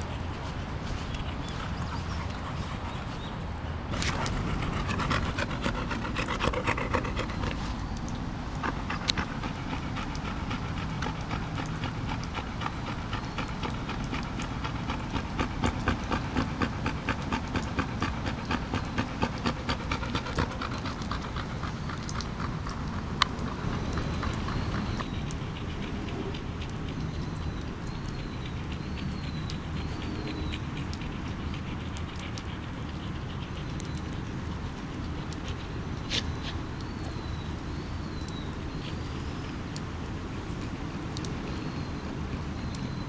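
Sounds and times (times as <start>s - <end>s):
dog panting: 0.0s - 43.0s.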